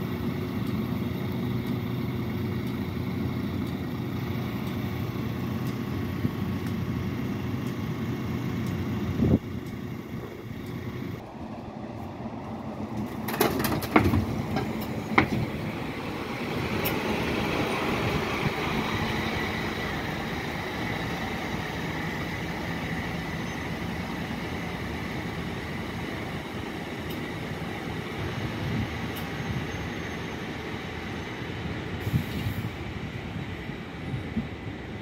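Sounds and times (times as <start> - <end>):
coach diesel engine driving past: 0.0 - 35.0.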